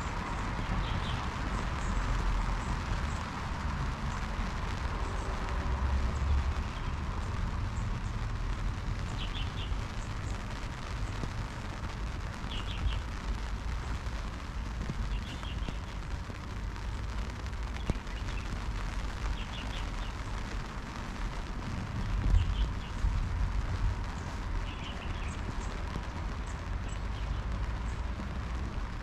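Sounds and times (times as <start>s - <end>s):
street ambience hiss: 0.0s - 29.0s.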